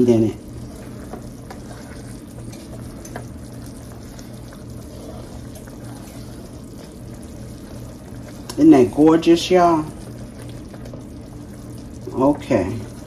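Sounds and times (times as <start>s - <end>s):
gravy bubbling in a pan: 0.0s - 13.0s.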